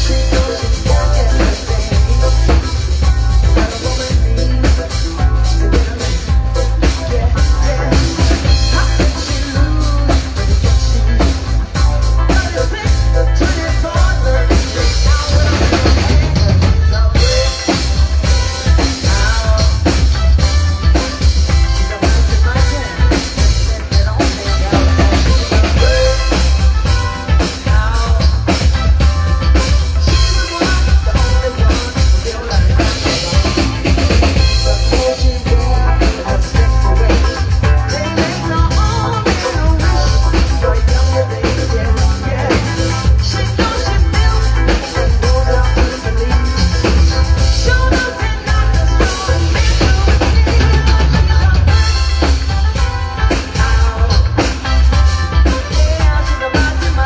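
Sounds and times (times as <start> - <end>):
band music: 0.0 - 57.0
drum kit beat: 0.0 - 57.0
heavy bass: 0.0 - 57.0.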